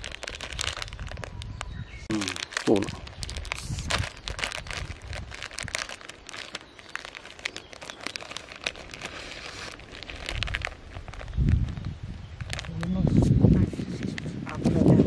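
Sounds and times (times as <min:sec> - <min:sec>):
plastic packet crinkling: 0:00.0 - 0:12.9.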